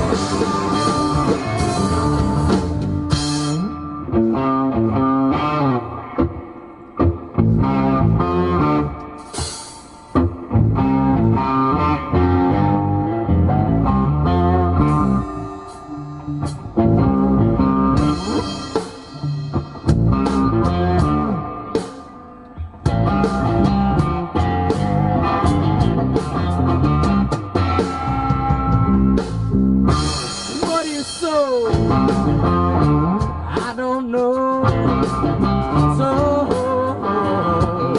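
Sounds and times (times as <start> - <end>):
blues-rock band playing: 0.0 - 37.9.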